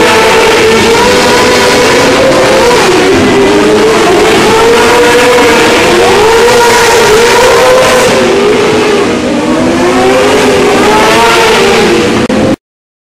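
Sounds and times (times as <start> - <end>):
sprint car engines revving: 0.0 - 12.6.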